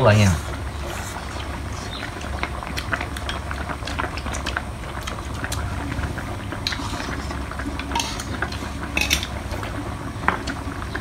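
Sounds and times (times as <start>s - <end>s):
hot pot bubbling: 0.0s - 11.0s.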